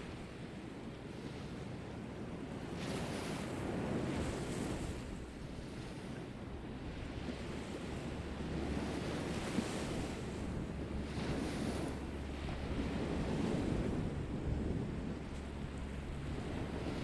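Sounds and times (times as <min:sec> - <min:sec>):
wind blowing on microphone: 0:01.2 - 0:17.0.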